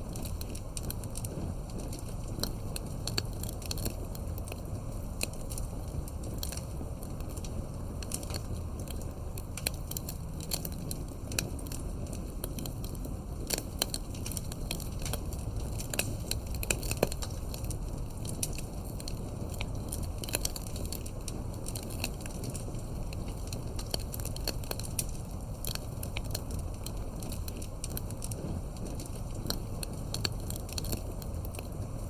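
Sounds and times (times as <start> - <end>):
low rumble of flames: 0.0 - 32.0
wood fire crackling: 0.0 - 32.0.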